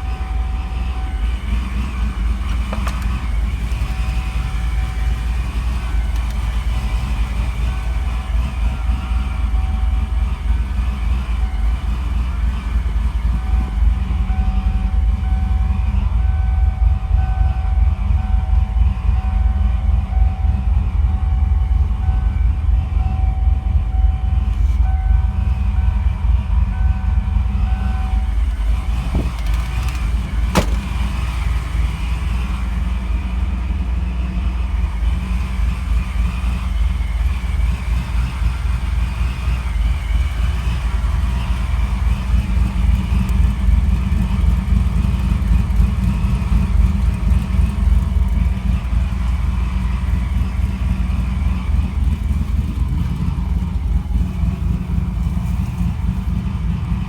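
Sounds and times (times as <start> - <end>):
pickup engine low rumble: 0.0 - 57.0.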